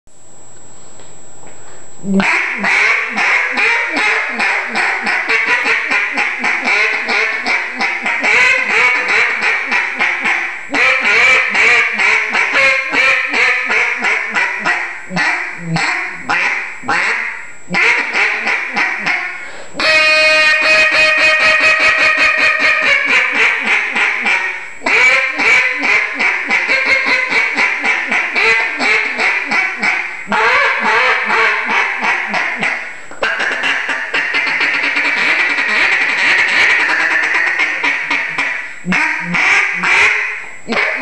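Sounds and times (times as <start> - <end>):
duck call quacking: 2.1 - 41.0.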